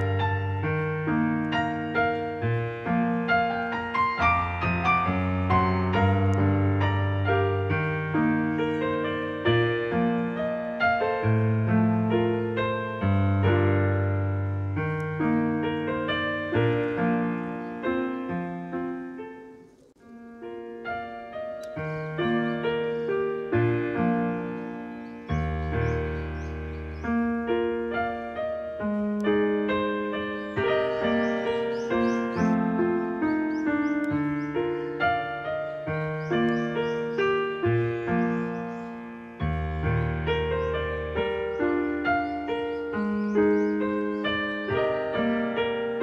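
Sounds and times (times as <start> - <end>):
slow piano music: 0.0 - 46.0.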